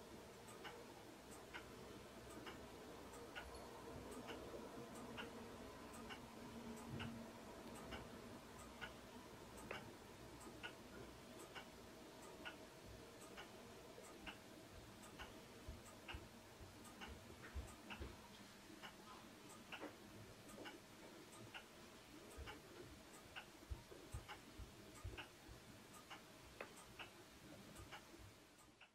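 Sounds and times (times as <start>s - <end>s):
clock ticking: 0.0s - 28.9s.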